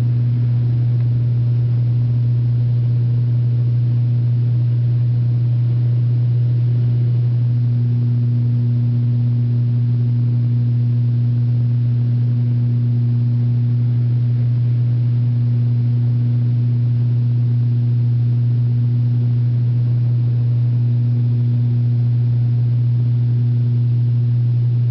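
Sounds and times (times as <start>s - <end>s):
turboprop engine drone in cabin: 0.0s - 24.9s.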